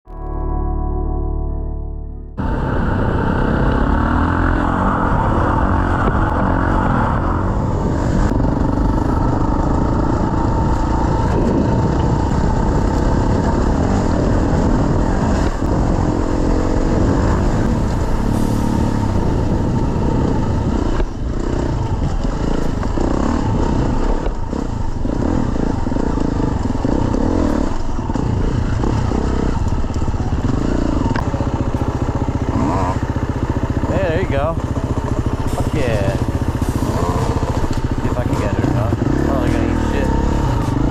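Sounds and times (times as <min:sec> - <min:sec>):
dirt bike engine revving: 0:02.4 - 0:40.9.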